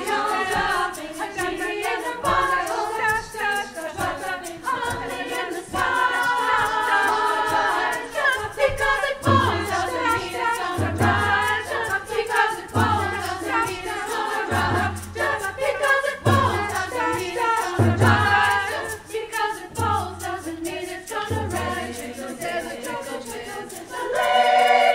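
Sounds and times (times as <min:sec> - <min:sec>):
choir singing in chords: 0:00.0 - 0:24.9.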